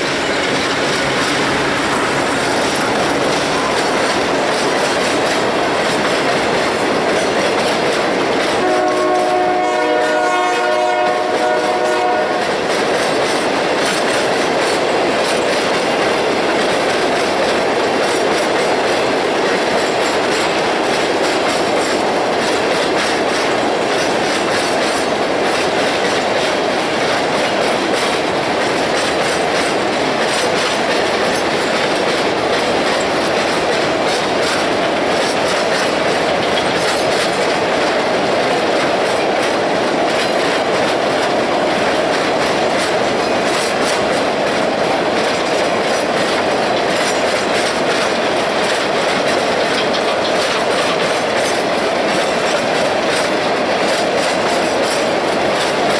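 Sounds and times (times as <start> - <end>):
train wheels clicking over rail joints: 0.0 - 55.9.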